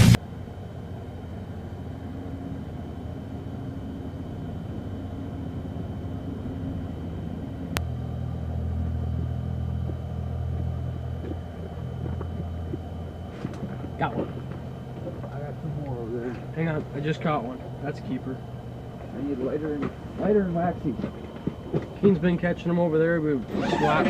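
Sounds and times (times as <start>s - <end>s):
low mechanical rumble and hum: 0.0s - 24.0s.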